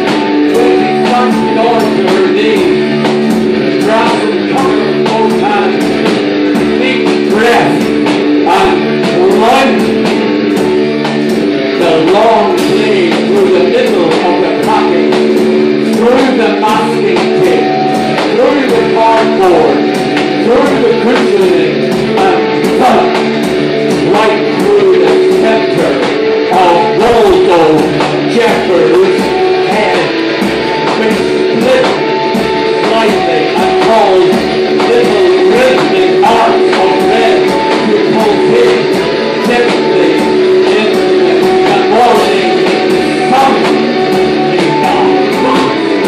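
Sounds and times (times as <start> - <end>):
rock band playing: 0.0 - 46.0.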